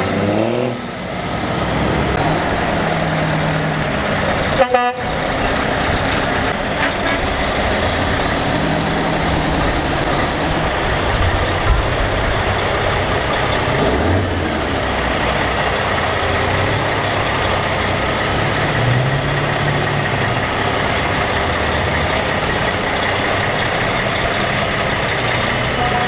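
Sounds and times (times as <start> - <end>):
truck diesel engines running: 0.0 - 26.0.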